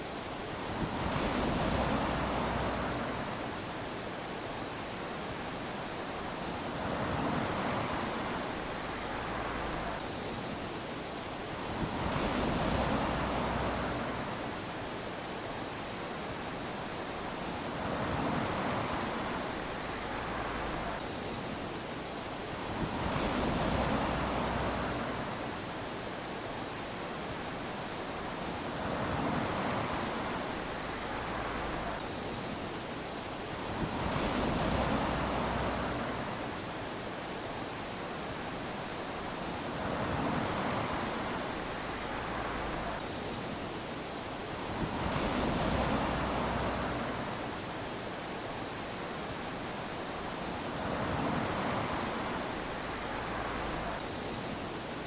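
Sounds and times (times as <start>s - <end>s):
waves lapping on sandy beach: 0.0s - 55.0s.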